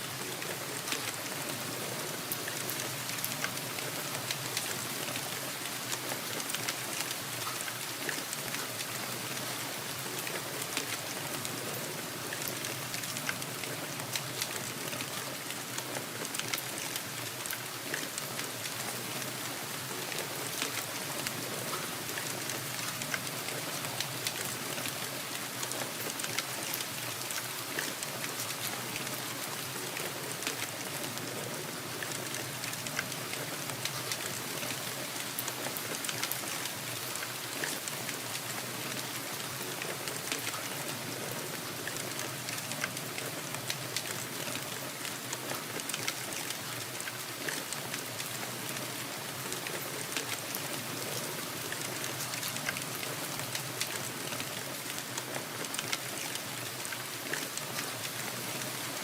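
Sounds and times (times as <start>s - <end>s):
steady rain hiss: 0.0s - 59.0s
raindrop ticks: 0.2s - 59.0s.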